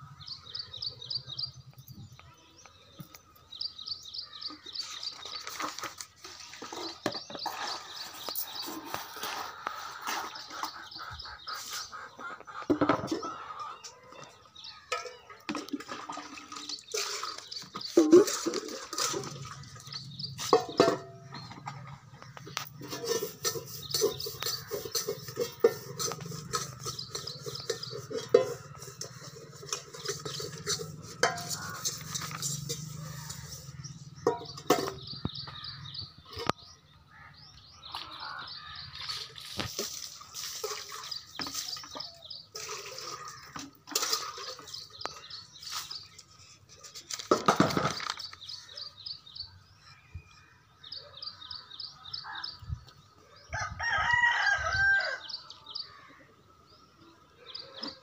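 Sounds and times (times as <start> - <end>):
small birds chirping: 0.0 - 53.7.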